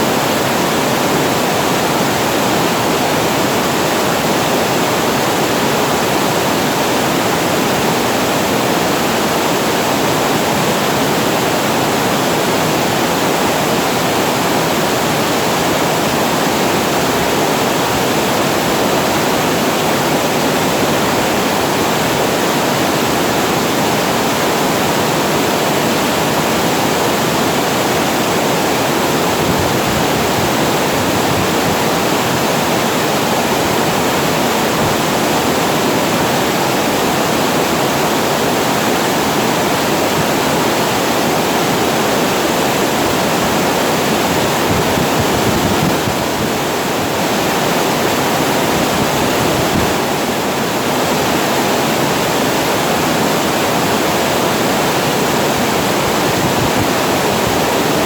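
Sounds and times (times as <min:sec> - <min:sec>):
water rushing over weir: 0:00.0 - 0:58.0.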